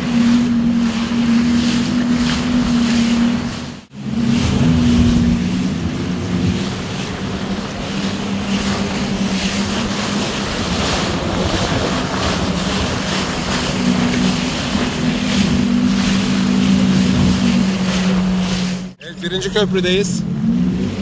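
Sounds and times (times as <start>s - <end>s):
wind buffeting microphone: 0.0s - 19.0s
jet ski engine droning: 0.0s - 21.0s
rushing water: 0.0s - 21.0s.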